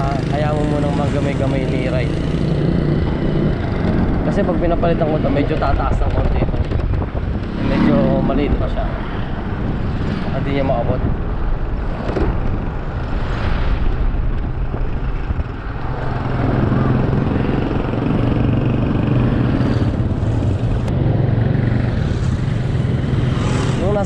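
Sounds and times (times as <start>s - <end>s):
road noise: 0.0s - 24.0s
wind rushing over microphone: 0.0s - 24.0s.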